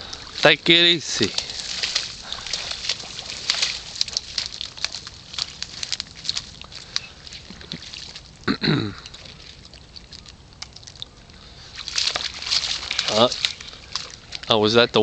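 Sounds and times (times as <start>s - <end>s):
crackles and snaps of sticks: 1.2s - 15.0s.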